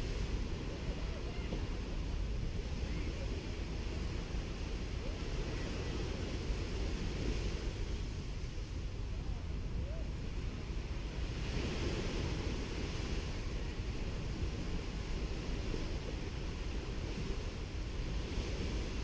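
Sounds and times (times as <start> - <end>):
waves washing onto sand: 0.0 - 19.0
wind rumble on microphone: 0.0 - 19.0.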